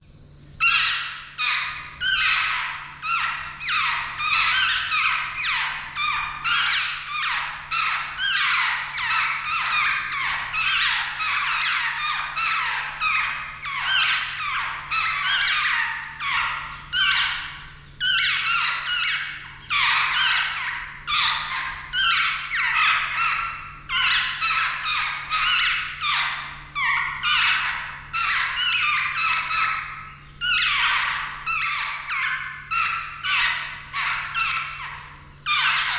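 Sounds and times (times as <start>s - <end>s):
babblers chattering calls: 0.6s - 35.9s.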